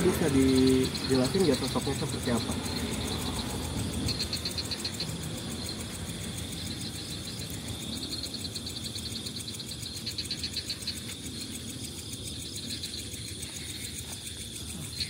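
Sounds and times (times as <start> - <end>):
crickets chirping: 0.0 - 15.0
low background rumble: 0.0 - 15.0.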